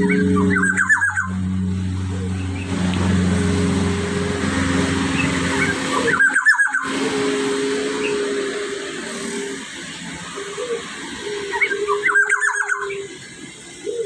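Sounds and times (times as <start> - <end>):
bird calling fluty notes: 0.0 - 4.4, 5.0 - 14.0
low engine-like hum: 0.0 - 14.0.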